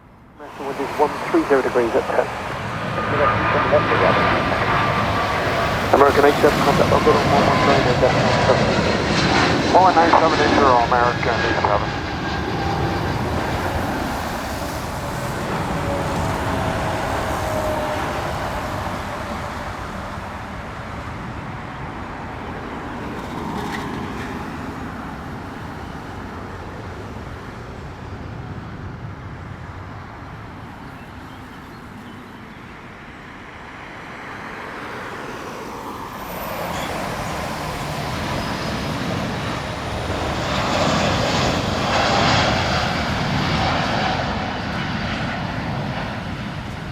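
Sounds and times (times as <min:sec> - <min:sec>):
jet engine whine falling in pitch: 0:00.0 - 0:46.9
jet engines roaring: 0:00.0 - 0:46.9.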